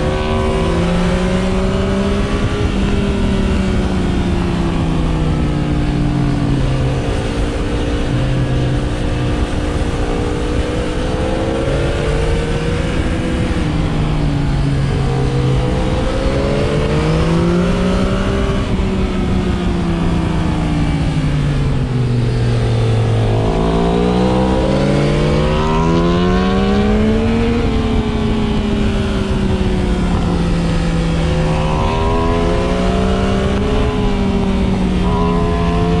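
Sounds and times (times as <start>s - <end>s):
motorcycle engine revving: 0.0s - 36.0s
wind and road noise: 0.0s - 36.0s.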